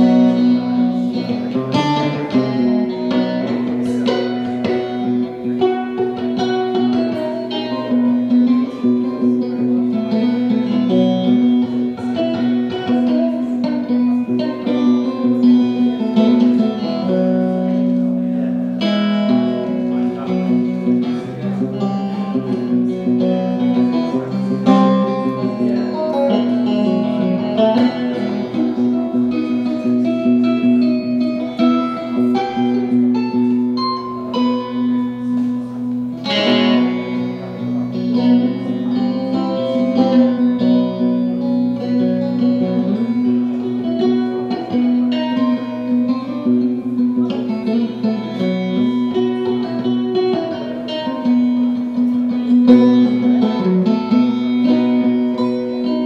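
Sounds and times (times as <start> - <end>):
plucked guitar notes: 0.0 - 56.0
struck guitar chord: 0.0 - 56.0.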